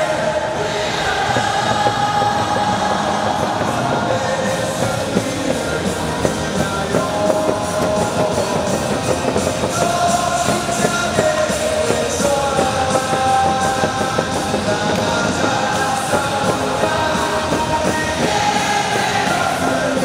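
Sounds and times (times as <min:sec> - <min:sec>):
crowd singing along: 0:00.0 - 0:20.0
rock music over loudspeakers: 0:00.0 - 0:20.0.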